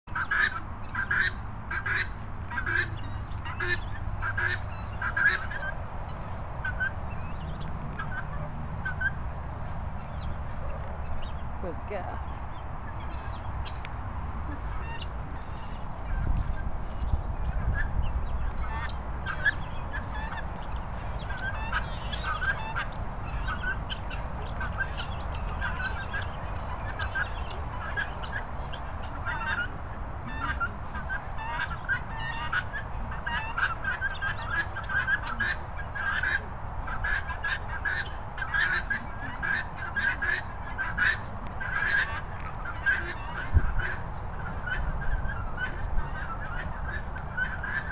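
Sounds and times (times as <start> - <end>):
guinea fowl calling: 0.1 - 47.9.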